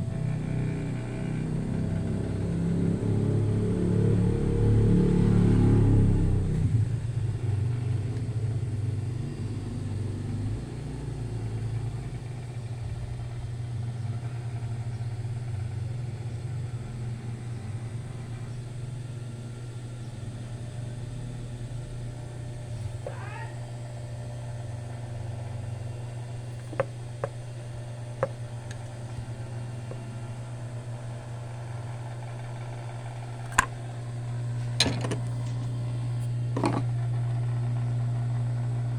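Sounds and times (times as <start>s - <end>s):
sewing machine motor hum: 0.0s - 38.9s.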